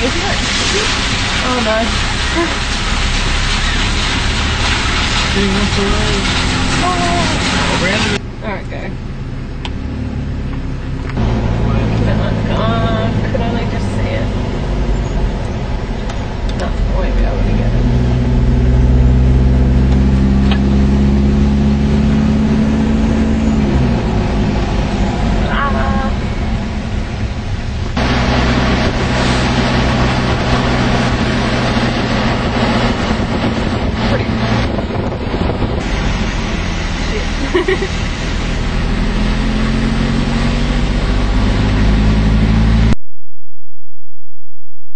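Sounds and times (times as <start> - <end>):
car engine running: 0.0 - 43.0
road and wind noise: 0.0 - 43.0.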